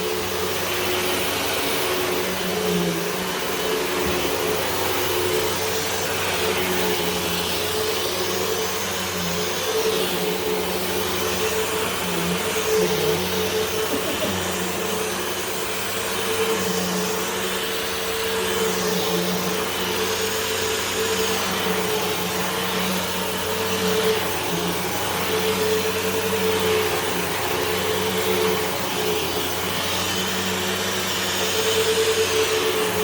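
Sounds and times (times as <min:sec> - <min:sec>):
upright vacuum cleaner running: 0:00.0 - 0:33.0.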